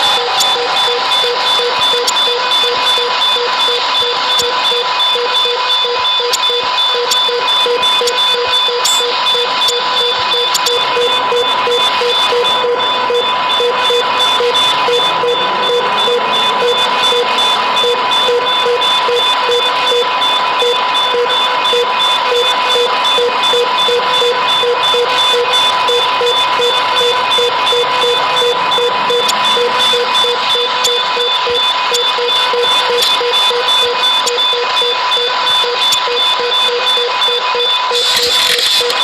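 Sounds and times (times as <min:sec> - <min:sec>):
electronic siren beeping tone: 0:00.0 - 0:39.0.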